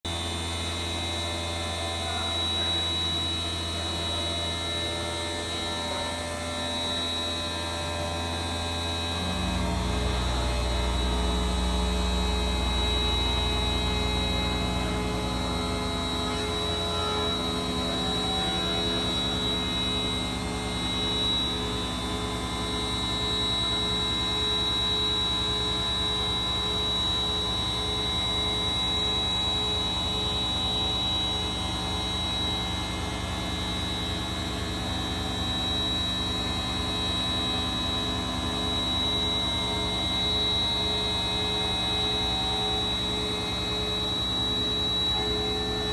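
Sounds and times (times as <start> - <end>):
high spindle whine: 0.1 - 45.9
milling machine hum: 0.1 - 45.9.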